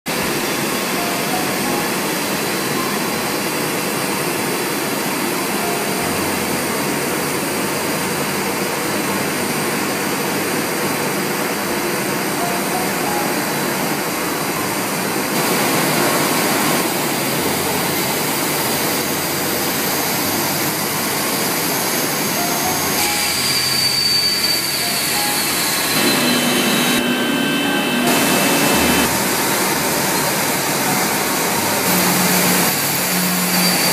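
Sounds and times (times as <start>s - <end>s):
laminating machine running: 0.1s - 33.9s.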